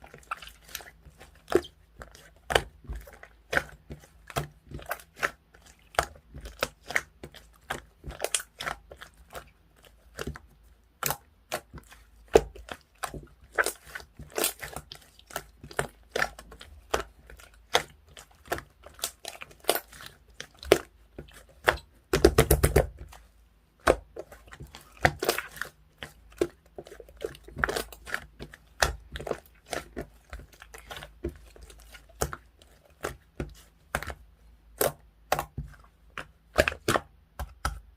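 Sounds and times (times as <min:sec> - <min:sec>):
slime squished by hand: 0:00.0 - 0:37.9.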